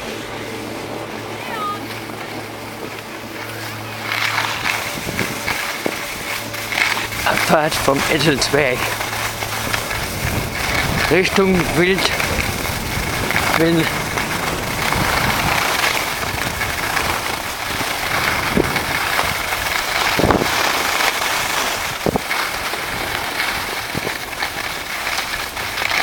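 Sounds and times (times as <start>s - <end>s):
skis scraping over snow: 0.0s - 26.0s.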